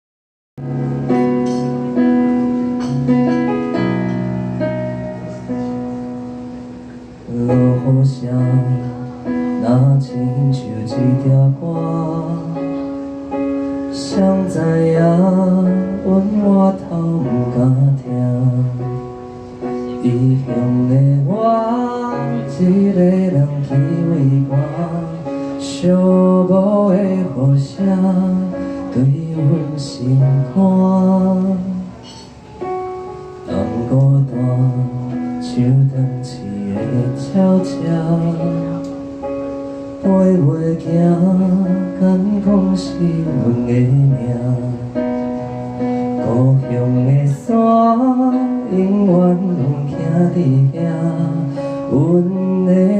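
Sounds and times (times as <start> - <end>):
electronic keyboard chords: 0.6 - 52.9
man singing into a microphone: 7.0 - 32.8, 33.4 - 52.9.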